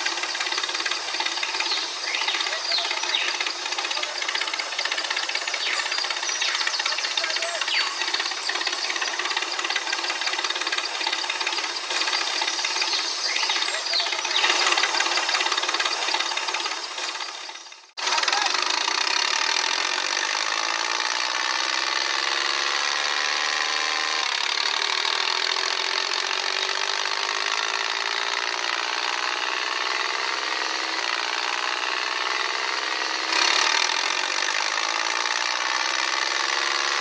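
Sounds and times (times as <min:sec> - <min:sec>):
small electric motor rattling: 0:00.0 - 0:37.0.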